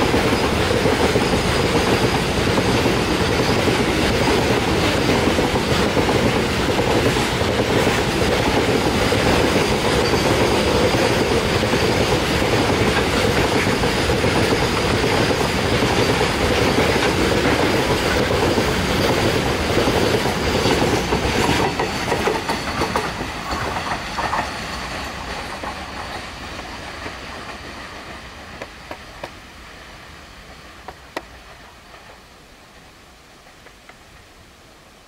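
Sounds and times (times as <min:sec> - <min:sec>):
train wheels clattering over rail joints: 0:00.0 - 0:29.4.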